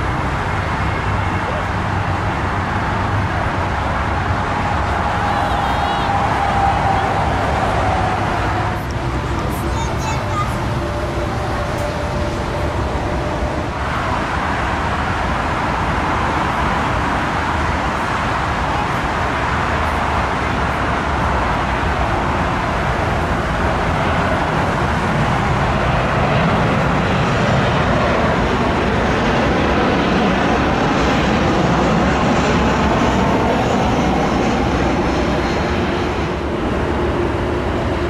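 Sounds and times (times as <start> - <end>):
high whine of engine fans: 0.0 - 38.0
jet engines rushing: 0.0 - 38.0.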